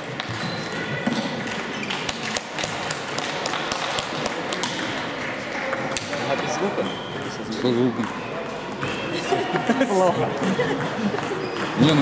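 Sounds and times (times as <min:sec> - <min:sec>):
table tennis balls clicking: 0:00.0 - 0:09.0, 0:10.8 - 0:12.0.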